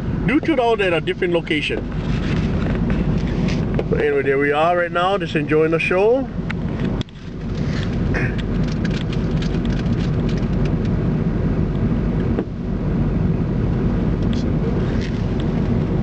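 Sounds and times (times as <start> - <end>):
low hum and rushing noise: 0.0 - 16.0.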